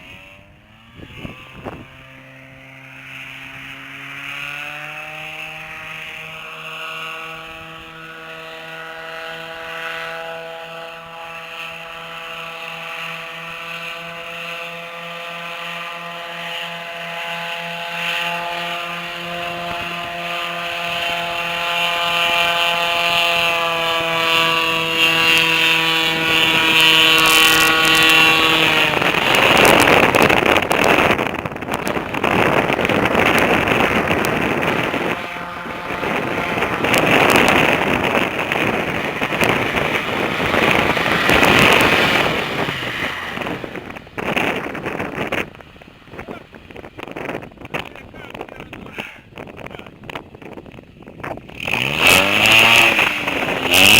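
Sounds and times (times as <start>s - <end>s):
airboat engine droning: 0.0s - 53.9s
wind on microphone: 0.0s - 53.9s.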